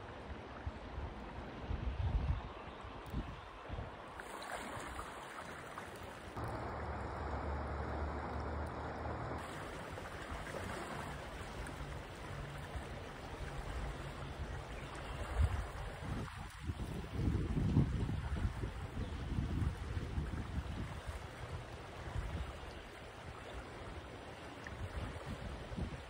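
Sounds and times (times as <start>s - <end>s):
wind rumble on microphone: 0.0s - 4.2s, 6.4s - 24.0s, 24.6s - 26.0s
shallow river water flowing: 0.0s - 26.0s.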